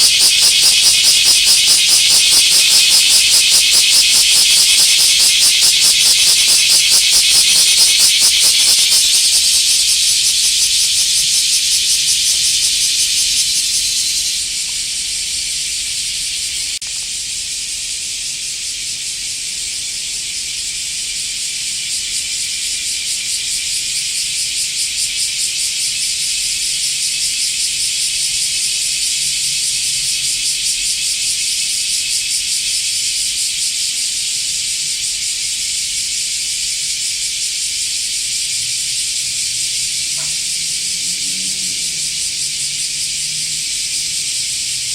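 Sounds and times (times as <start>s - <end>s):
cicada shrill buzz: 0.0s - 44.9s.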